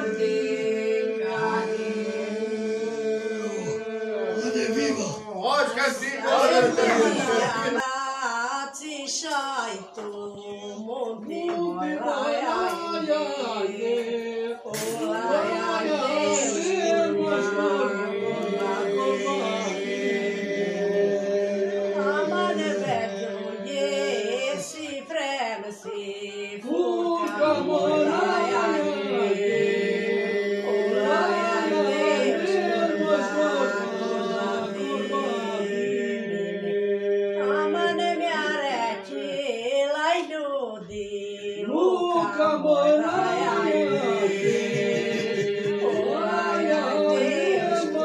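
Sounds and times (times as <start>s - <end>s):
group singing polyphonic folk song: 0.0s - 48.0s.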